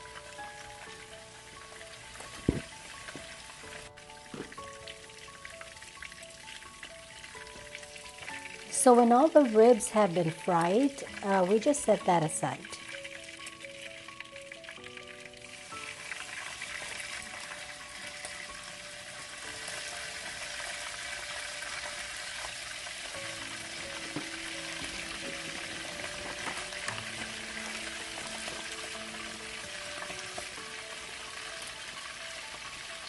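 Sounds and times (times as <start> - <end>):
meat sizzling in a frying pan: 0.0 - 33.0.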